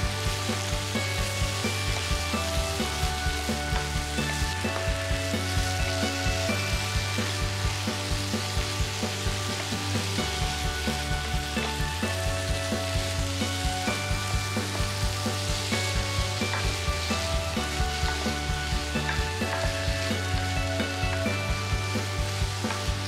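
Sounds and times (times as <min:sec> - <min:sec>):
background music with beat: 0:00.0 - 0:23.0
food sizzling in frying pan: 0:00.0 - 0:23.0.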